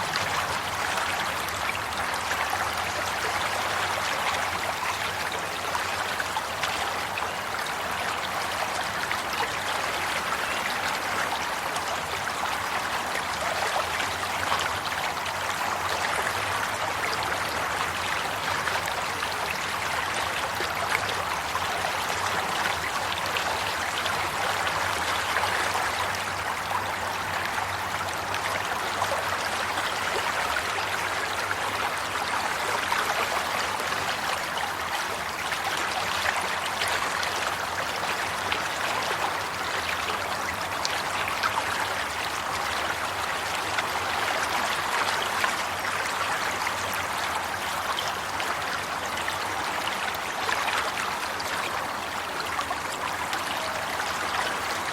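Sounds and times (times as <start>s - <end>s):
stream water babbling: 0.0s - 54.9s.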